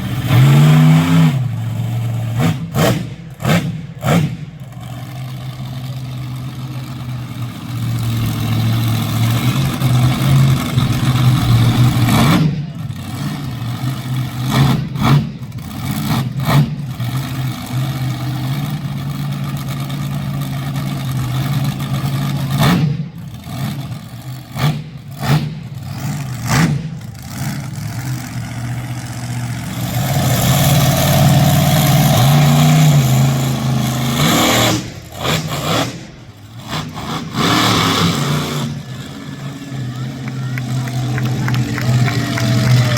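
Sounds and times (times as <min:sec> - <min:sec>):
monster truck engine revving: 0:00.0 - 0:42.9.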